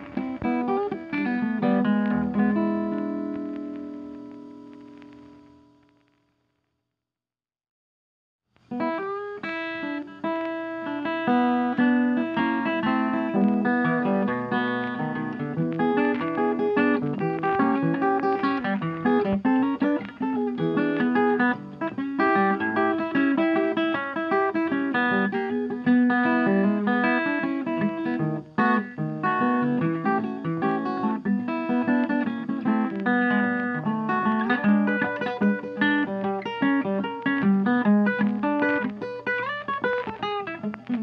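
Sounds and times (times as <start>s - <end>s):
acoustic guitar music: 0.0s - 6.0s, 8.7s - 41.0s.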